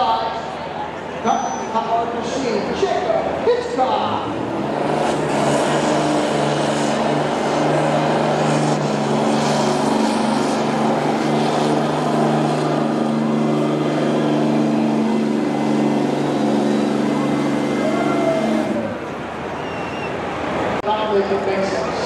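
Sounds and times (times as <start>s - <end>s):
diesel engine under full load: 0.0s - 22.0s.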